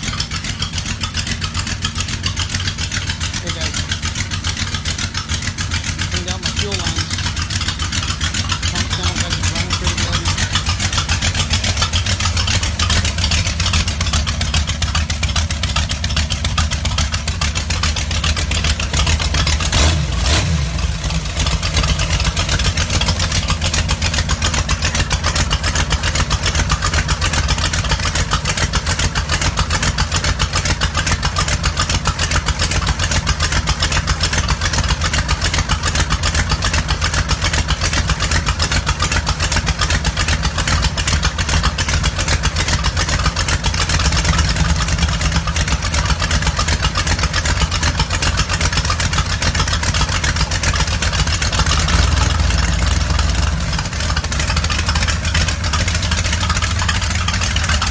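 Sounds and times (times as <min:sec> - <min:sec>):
car engine running: 0:00.0 - 0:57.9.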